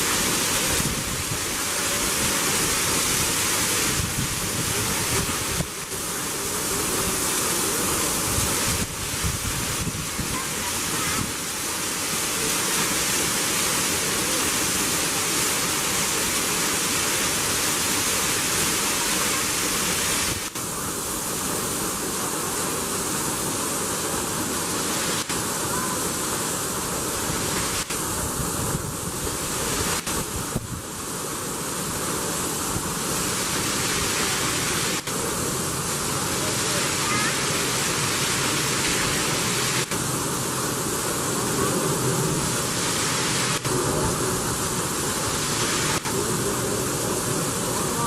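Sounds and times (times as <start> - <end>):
waterfall rushing water: 0.0 - 48.0.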